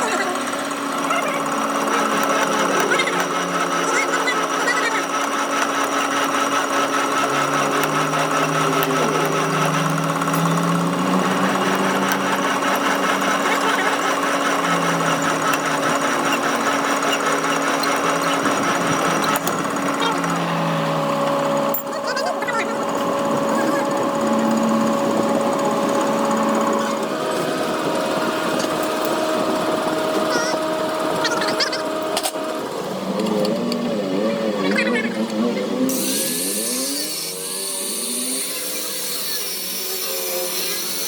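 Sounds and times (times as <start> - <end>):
power tool rattling and whining: 0.0 - 41.0.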